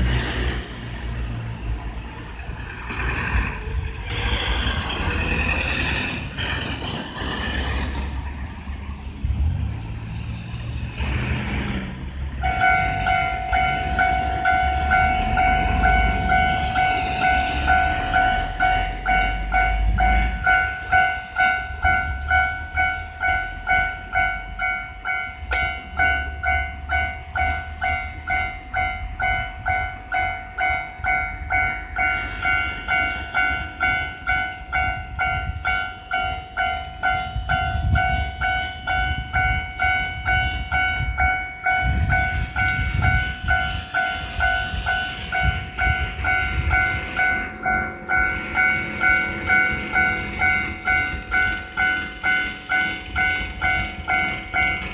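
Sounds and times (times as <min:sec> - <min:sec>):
level-crossing warning bell: 0:00.0 - 0:54.9.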